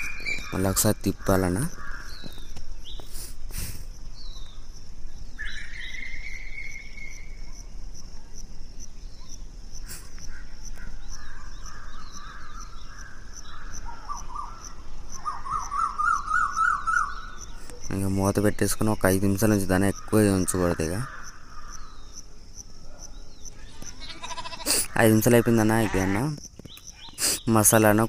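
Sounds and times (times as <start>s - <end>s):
birds calling: 0.0s - 28.0s
insects chirring in pulses: 0.0s - 28.0s.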